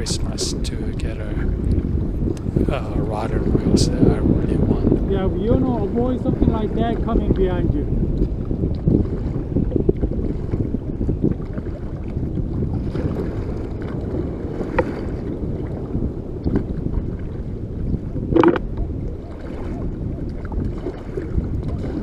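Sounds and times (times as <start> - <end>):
wind buffeting microphone: 0.0 - 22.0
water sloshing around kayak: 3.4 - 22.0.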